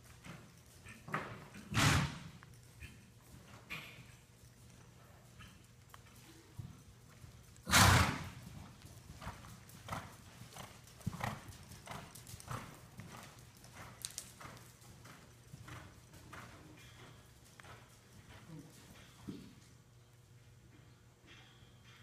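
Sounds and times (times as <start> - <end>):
horse hoofbeats in sand: 0.0 - 19.9.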